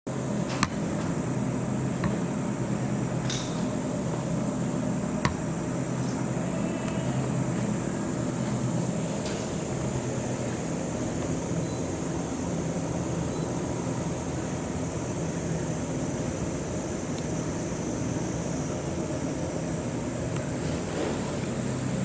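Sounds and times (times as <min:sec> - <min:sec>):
mechanical hum and hiss: 0:00.1 - 0:22.0.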